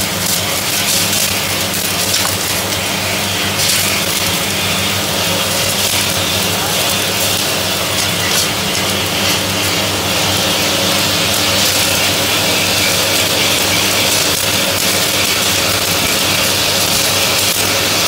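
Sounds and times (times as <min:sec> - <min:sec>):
vacuum equipment hissing and humming: 0:00.0 - 0:18.0.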